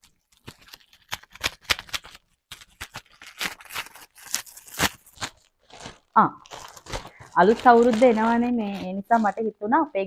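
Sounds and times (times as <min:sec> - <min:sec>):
plastic packaging crackling: 0:00.0 - 0:10.0.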